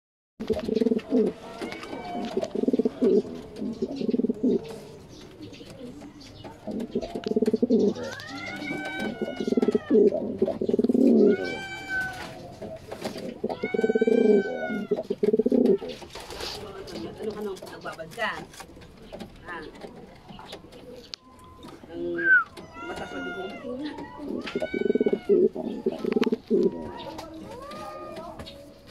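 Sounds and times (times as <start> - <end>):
pigeon cooing: 0.4 - 17.9, 18.6 - 28.9
higher arching pigeon calls: 0.4 - 28.9.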